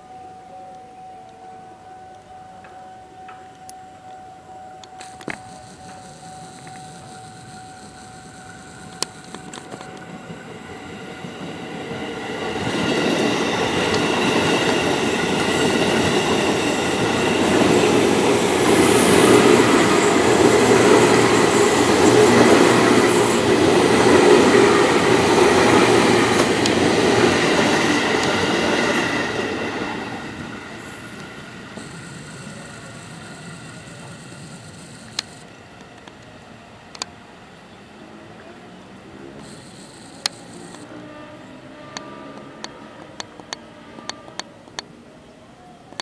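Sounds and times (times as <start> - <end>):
train passing on rails: 2.5 - 46.0.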